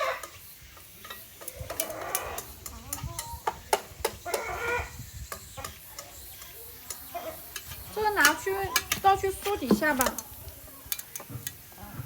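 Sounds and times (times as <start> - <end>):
chickens clucking: 0.0 - 11.4.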